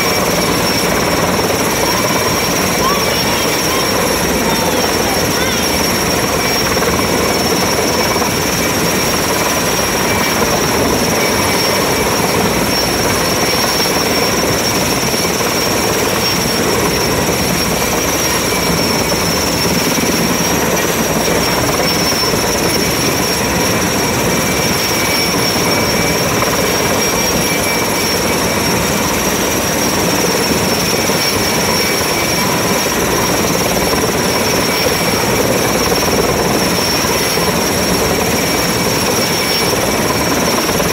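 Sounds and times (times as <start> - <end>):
helicopter rotor and engine: 0.0 - 40.9
high turbine whine: 0.0 - 40.9.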